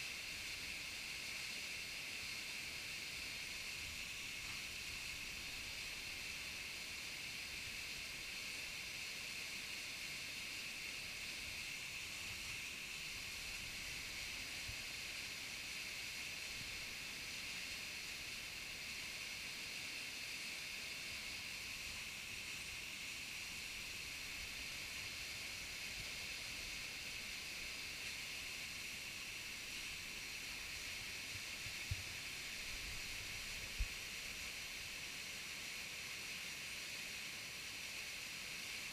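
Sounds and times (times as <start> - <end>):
small waterfall pouring: 0.0 - 38.9.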